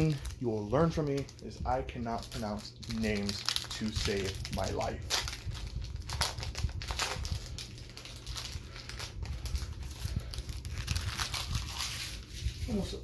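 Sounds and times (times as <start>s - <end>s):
foil wrapper crinkling: 0.0s - 13.0s
steady low hum: 0.0s - 13.0s.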